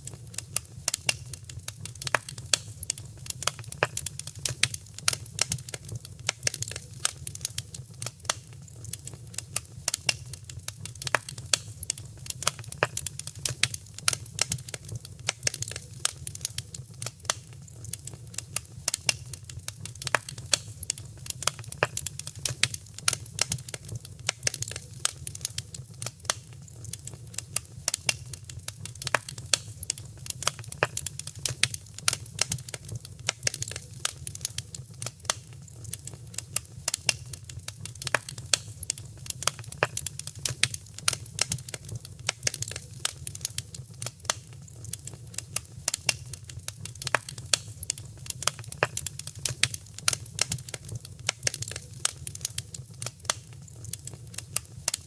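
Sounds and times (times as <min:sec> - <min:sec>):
low rumble of burning: 0:00.0 - 0:55.0
wood fire crackling: 0:00.0 - 0:55.0.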